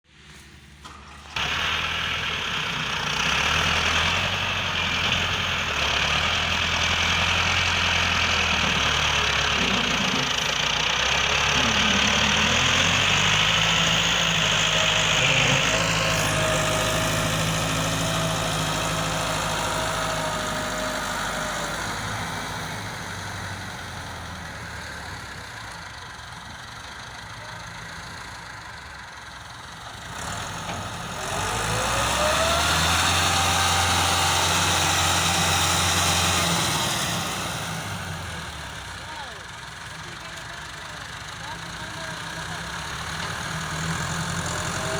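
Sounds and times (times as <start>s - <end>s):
tractor engines running: 0.1s - 44.9s.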